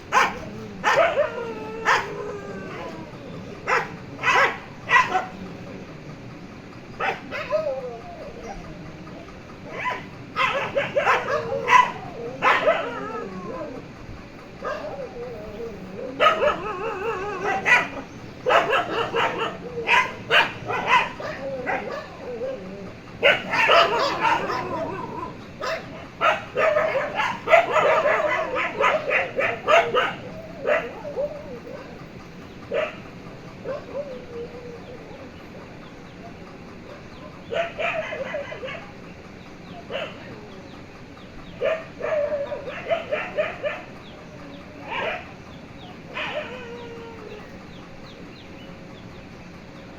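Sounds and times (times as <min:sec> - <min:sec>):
dogs barking: 0:00.0 - 0:06.0, 0:06.6 - 0:48.7.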